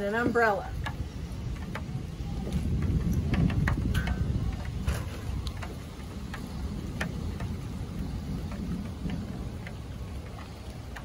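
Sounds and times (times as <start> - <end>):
rain falling: 0.0 - 11.0
light ticks: 0.2 - 11.0.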